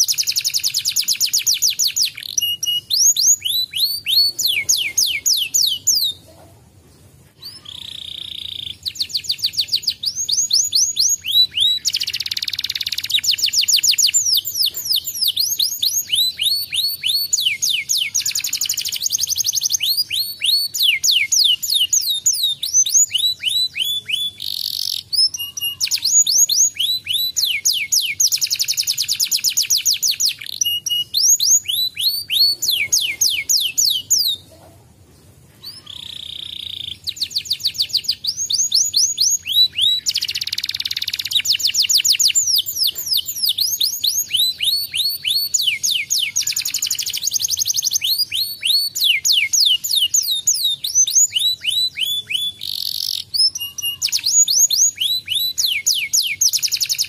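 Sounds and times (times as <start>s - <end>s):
canary singing trills: 0.0s - 6.5s, 7.4s - 34.8s, 35.6s - 57.0s.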